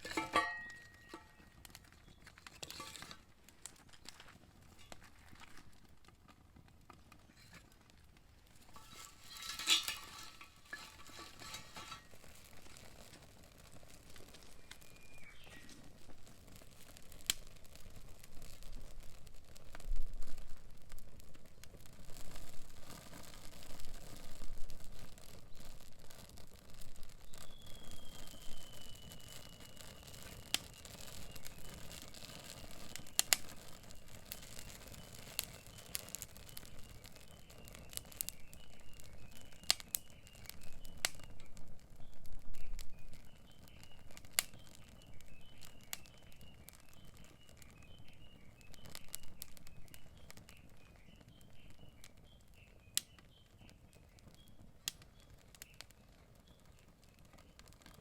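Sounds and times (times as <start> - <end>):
rustling crumpling noise: 0.0 - 52.8.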